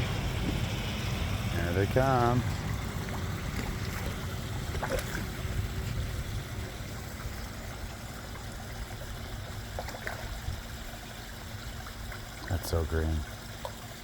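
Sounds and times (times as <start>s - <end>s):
water trickling in pond: 0.0s - 14.0s.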